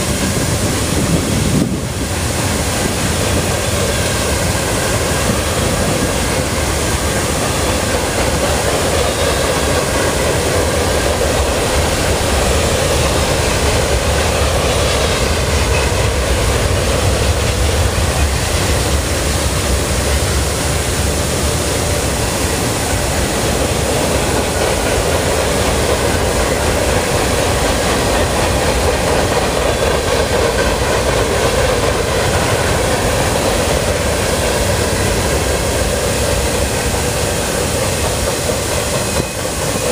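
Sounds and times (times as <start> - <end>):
train wheels running on rails: 0.0 - 39.9.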